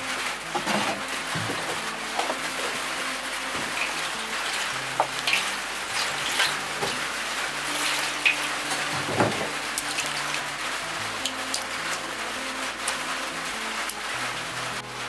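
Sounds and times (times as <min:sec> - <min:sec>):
water pouring into metal tray: 0:00.0 - 0:14.0
greens washed by hand in water: 0:00.0 - 0:14.7
rain hissing on roof: 0:00.0 - 0:15.0.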